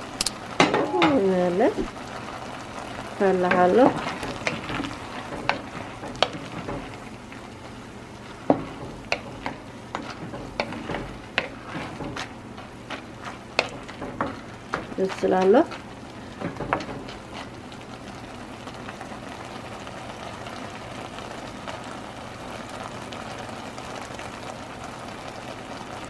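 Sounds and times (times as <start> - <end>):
water boiling in pot: 0.0 - 26.0.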